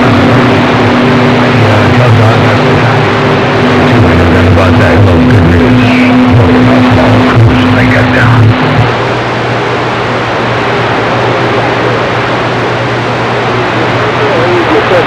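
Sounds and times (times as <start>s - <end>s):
garbled radio transmission with tone: 0.0s - 15.0s
radio static hiss: 0.0s - 15.0s.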